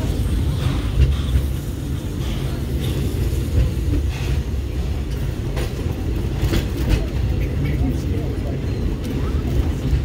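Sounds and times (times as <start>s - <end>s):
train car rumbling on track: 0.0s - 10.0s.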